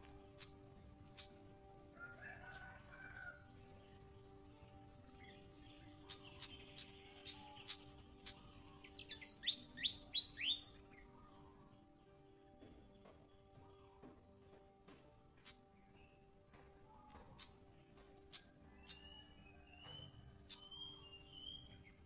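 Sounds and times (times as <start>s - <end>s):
pulsing high insect buzz: 0.0s - 22.0s
small birds chirping: 0.0s - 22.0s.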